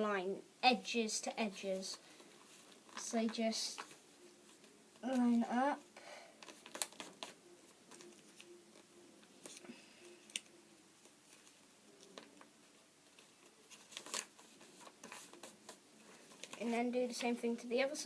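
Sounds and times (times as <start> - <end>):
paper rustling and crinkling: 1.8 - 5.4, 6.4 - 17.5.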